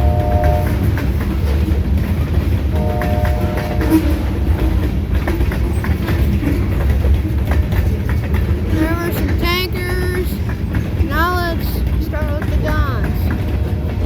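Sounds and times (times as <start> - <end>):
freight train rumbling: 0.0 - 14.0
wheels clacking over rails: 0.0 - 14.0.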